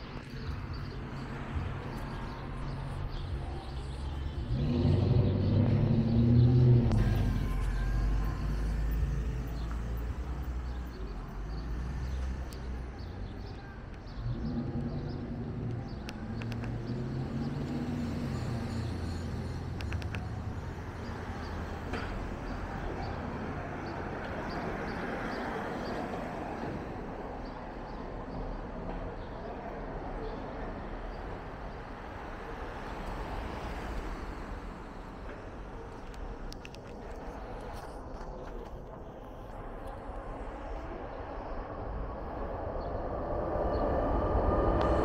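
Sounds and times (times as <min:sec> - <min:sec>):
cars driving past: 0:00.0 - 0:45.0.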